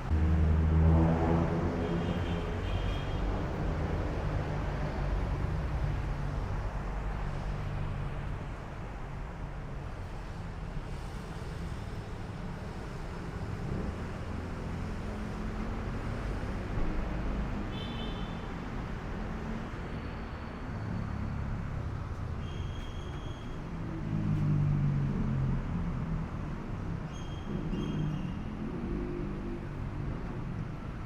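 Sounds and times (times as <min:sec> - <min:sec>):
traffic noise: 0:00.0 - 0:31.0
vehicle engine hum: 0:00.0 - 0:31.0.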